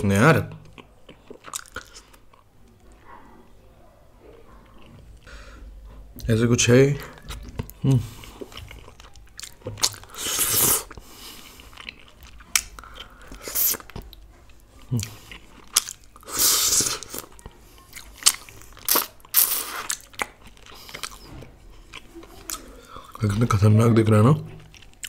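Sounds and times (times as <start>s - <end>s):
man chewing wetly: 0.5s - 2.5s, 4.6s - 6.2s, 7.0s - 23.6s, 24.4s - 25.0s.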